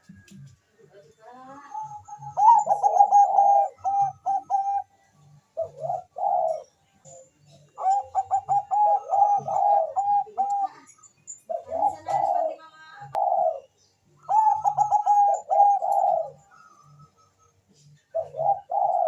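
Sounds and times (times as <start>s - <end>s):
dove cooing: 1.6s - 19.0s.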